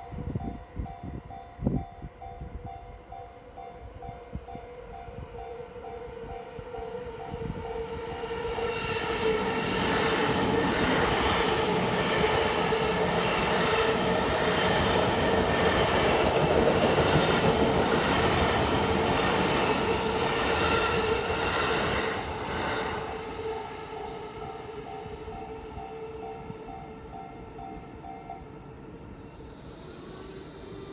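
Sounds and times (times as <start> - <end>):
electric train passing: 0.0 - 30.9.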